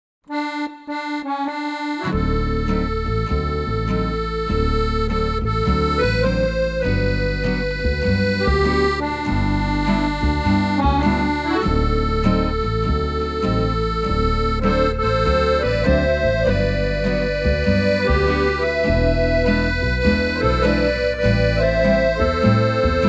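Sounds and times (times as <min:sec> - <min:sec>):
instrumental music with beat: 0:00.3 - 0:23.0.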